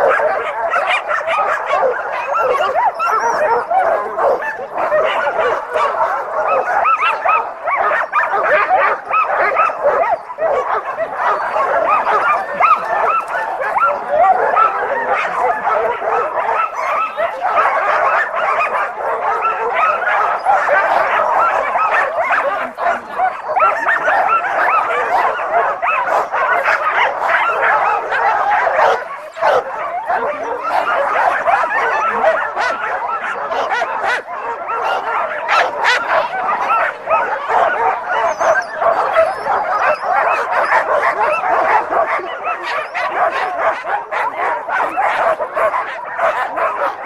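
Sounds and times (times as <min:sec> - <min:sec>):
sled dogs barking: 0:00.0 - 0:47.0.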